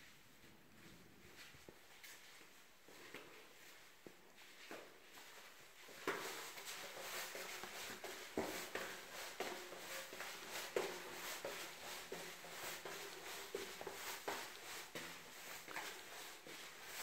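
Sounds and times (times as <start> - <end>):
footsteps on stone stairs: 2.9 - 17.0.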